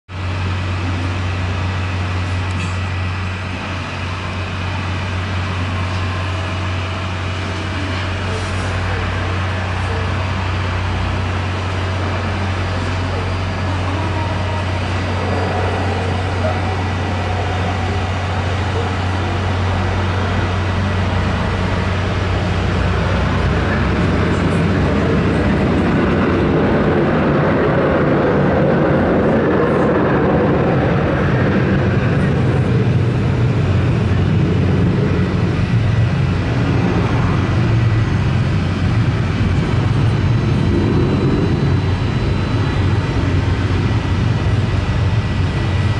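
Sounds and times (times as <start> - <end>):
jet engines at taxi power: 0.1 - 45.9.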